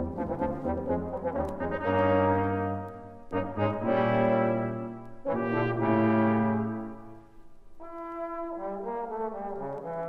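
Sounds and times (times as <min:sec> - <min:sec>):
brass chord: 0:00.0 - 0:10.0.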